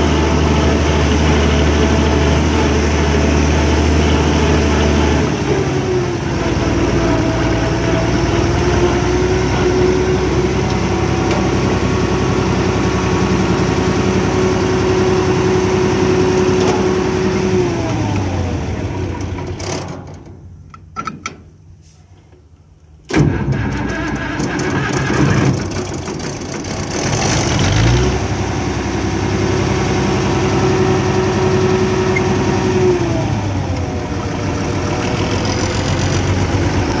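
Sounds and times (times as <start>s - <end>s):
diesel tractor engine starting: 0.0s - 37.0s.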